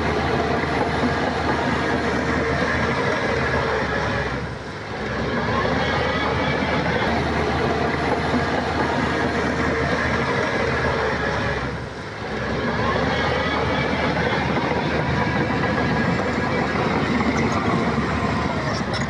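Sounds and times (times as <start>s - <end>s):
bulldozer diesel engine under load: 0.0s - 19.0s
steel tracks clanking: 0.0s - 19.0s.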